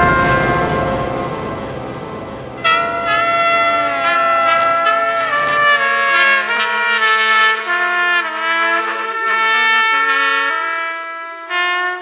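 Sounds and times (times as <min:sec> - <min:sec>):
steady low note: 0:00.0 - 0:10.8
orchestral film music chords: 0:00.0 - 0:12.0.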